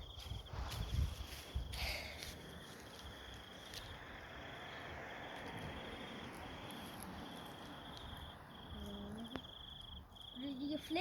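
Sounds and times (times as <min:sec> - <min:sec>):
insect chirping trills: 0:00.0 - 0:11.0.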